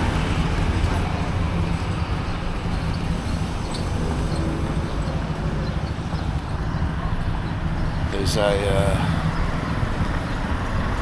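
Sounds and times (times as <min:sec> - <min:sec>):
traffic rumble on city road: 0:00.0 - 0:11.0.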